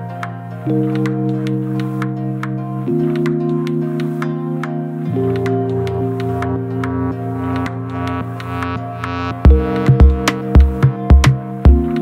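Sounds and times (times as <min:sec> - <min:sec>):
held low chords: 0:00.0 - 0:12.0
light ticking beat: 0:00.0 - 0:12.0.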